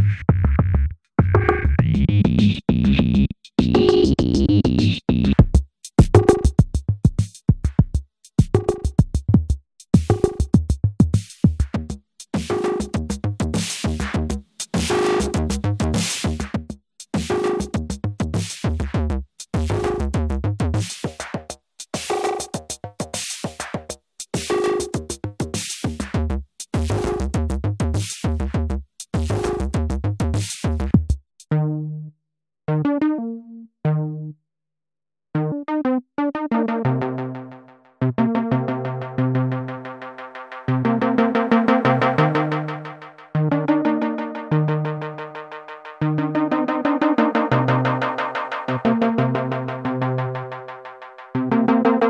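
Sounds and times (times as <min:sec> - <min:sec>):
electronic drum machine beat: 0:00.0 - 0:31.2, 0:38.9 - 0:52.0.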